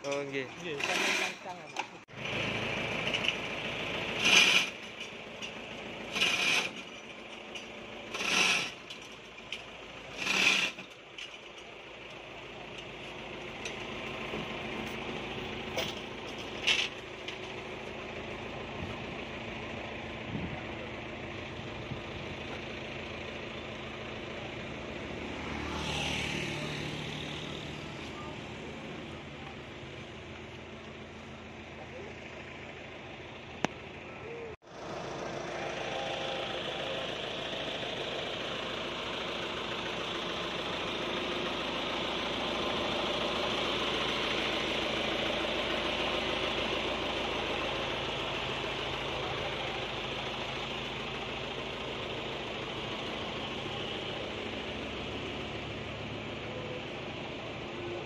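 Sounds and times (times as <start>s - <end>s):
truck engine idling: 0.0s - 25.3s, 26.4s - 58.0s.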